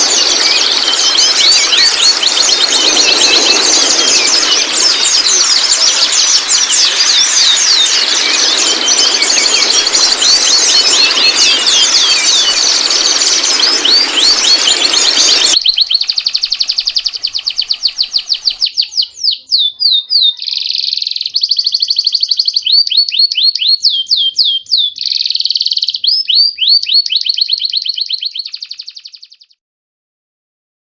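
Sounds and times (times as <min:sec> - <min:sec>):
bird song: 0:00.0 - 0:29.6.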